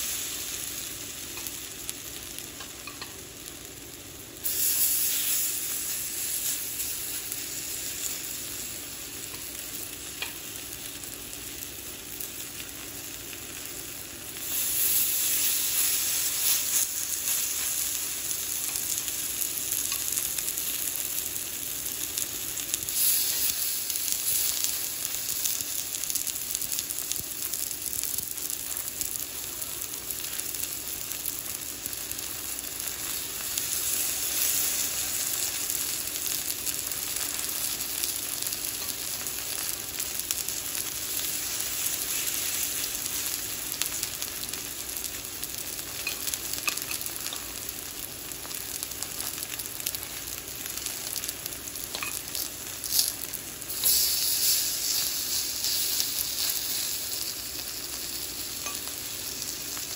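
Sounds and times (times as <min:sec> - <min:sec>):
food sizzling in a skillet: 0:00.0 - 0:59.9.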